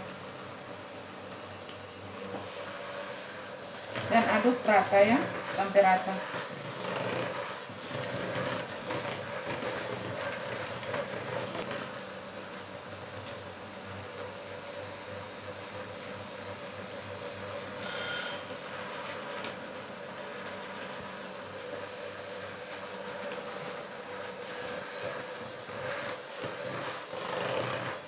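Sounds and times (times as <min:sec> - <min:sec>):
electric hand mixer whirring: 0:00.0 - 0:28.0.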